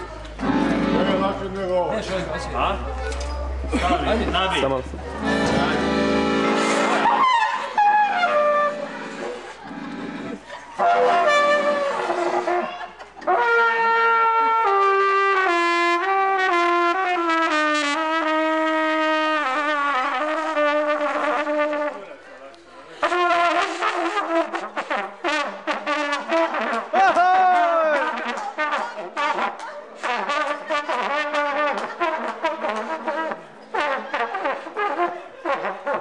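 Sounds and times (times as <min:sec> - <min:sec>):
brass band trumpet melody: 0:00.3 - 0:02.7, 0:05.1 - 0:22.2, 0:23.0 - 0:36.0
brass horn: 0:00.4 - 0:01.6, 0:05.2 - 0:22.2, 0:23.0 - 0:36.0.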